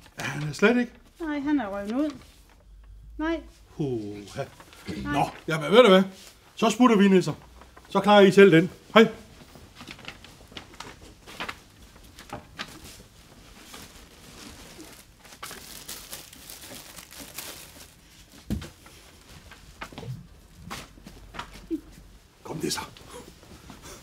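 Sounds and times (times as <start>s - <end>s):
fabric rustling and crinkling: 0.0s - 22.4s, 23.0s - 24.0s.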